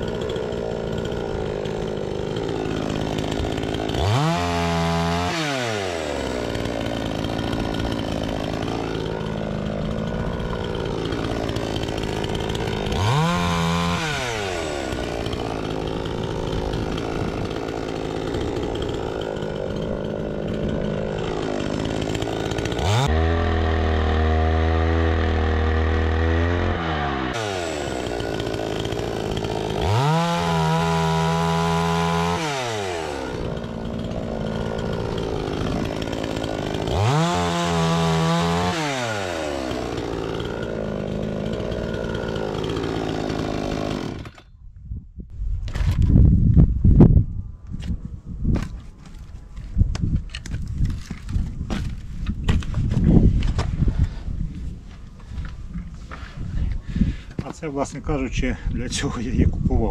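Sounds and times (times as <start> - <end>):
chainsaw revving and cutting: 0.0 - 44.5, 50.4 - 57.8.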